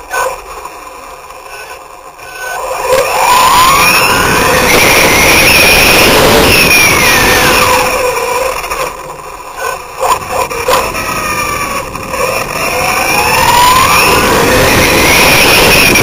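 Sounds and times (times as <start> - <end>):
rush of tyres and wind: 0.0 - 16.0
toy car motor whine: 0.0 - 16.0.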